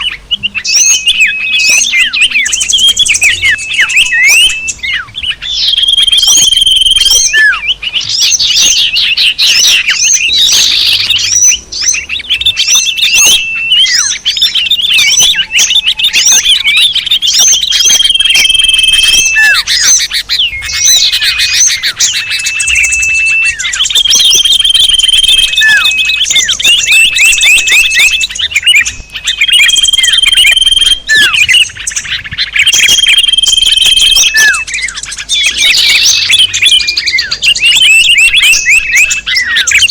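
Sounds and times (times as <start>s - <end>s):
downward-sweeping chirps: 0.0s - 39.9s
songbirds chorus: 0.0s - 39.9s.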